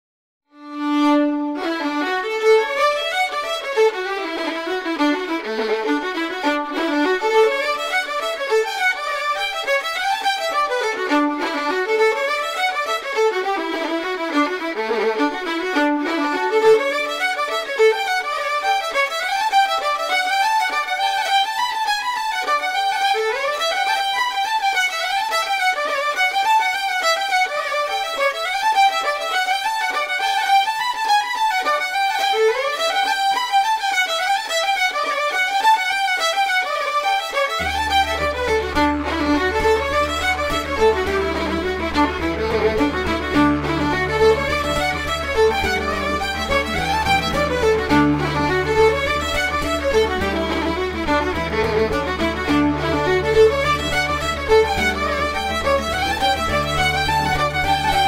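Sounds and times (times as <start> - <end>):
fast fiddle tune: 0.6 - 58.0.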